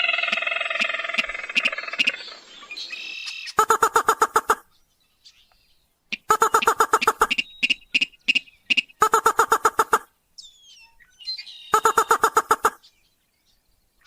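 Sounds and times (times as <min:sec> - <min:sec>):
faint high bird chirps: 0:00.0 - 0:03.6, 0:04.6 - 0:09.0, 0:10.4 - 0:14.0
rail bird harsh clipped calls: 0:00.0 - 0:04.7, 0:05.3 - 0:12.9.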